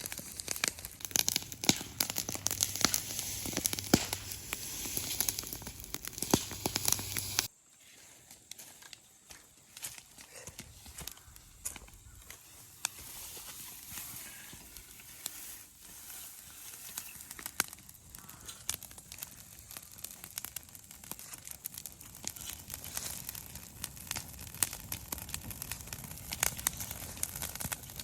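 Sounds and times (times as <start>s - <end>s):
dry grass fire crackling: 0.0s - 7.5s, 9.7s - 28.0s
fire hissing: 0.0s - 7.5s, 12.8s - 28.0s.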